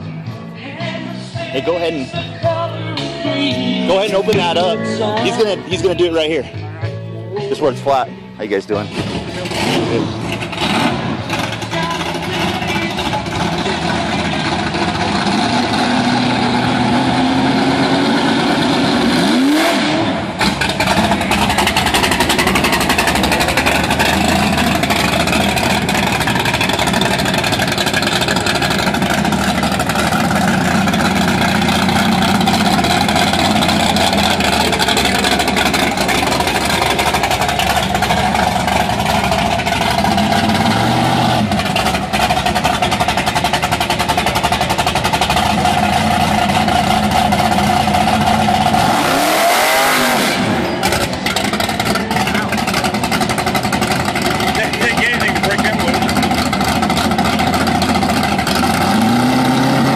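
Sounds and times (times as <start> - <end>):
vee eight engine revving: 2.8 - 59.9.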